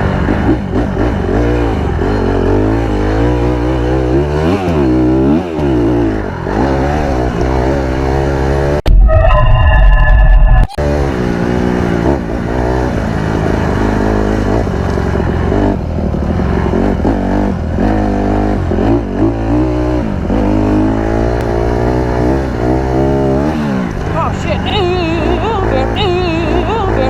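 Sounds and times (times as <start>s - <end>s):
dirt bike engine revving: 0.0s - 8.8s, 10.8s - 27.0s.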